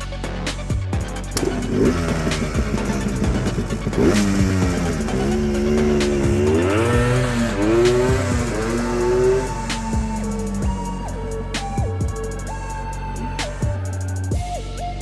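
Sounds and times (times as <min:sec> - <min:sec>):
background music: 0:00.0 - 0:15.0
two-stroke engine revving: 0:00.5 - 0:14.4.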